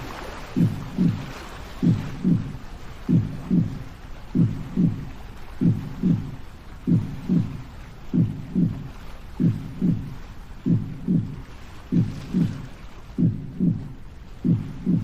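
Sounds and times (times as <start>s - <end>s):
faint steady hiss: 0.0s - 15.0s
slow heartbeat: 0.2s - 15.0s.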